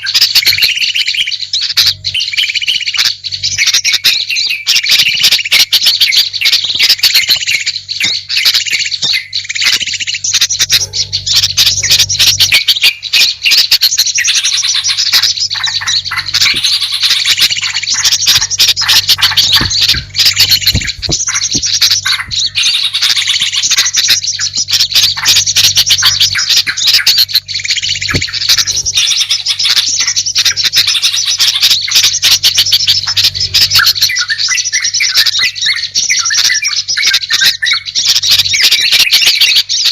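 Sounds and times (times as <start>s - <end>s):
songbirds chattering: 0.0s - 39.9s.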